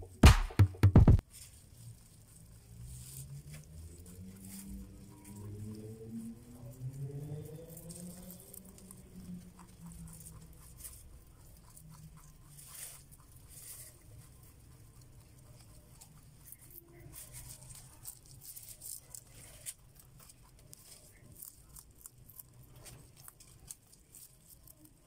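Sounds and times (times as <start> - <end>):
rabbit chewing crunchy stalk: 0.0 - 25.0.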